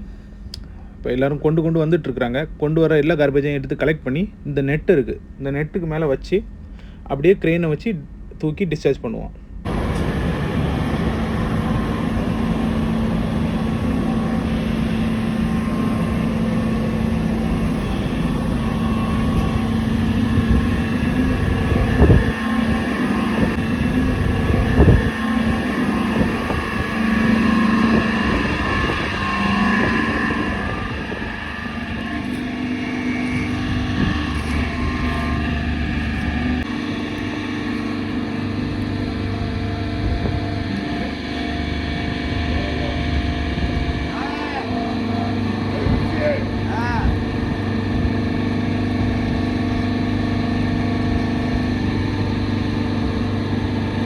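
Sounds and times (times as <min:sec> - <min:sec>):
machinery drone: 0:09.6 - 0:54.0.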